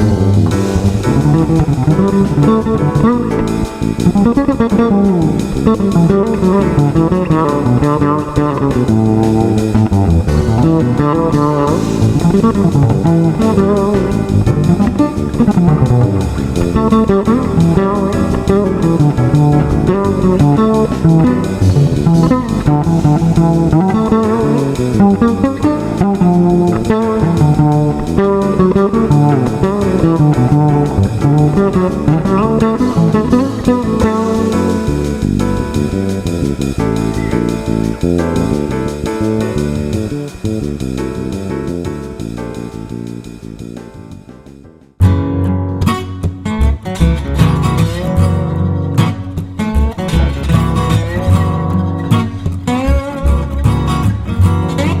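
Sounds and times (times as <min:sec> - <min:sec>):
fretless bass plucked notes: 0:00.0 - 0:55.0.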